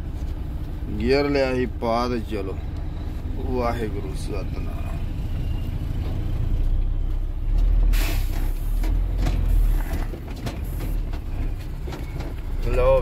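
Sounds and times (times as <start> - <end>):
diesel truck engine rumble: 0.0 - 13.0.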